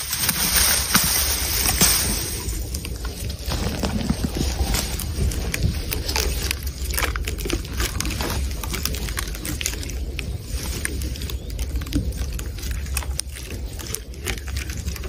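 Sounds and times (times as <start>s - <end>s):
camel crunching twigs: 0.0s - 15.0s
steady low rumble: 0.0s - 15.0s.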